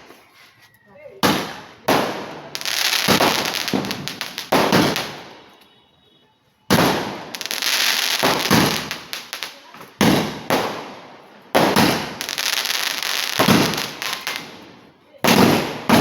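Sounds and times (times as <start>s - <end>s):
fireworks shots: 1.2s - 5.6s, 6.7s - 16.0s.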